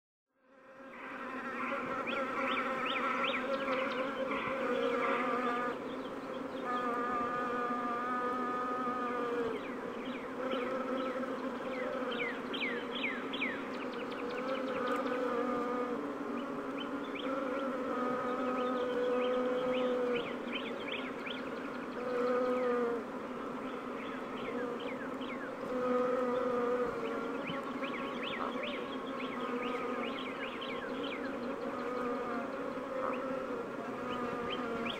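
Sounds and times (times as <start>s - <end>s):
bees buzzing: 0.5s - 34.9s.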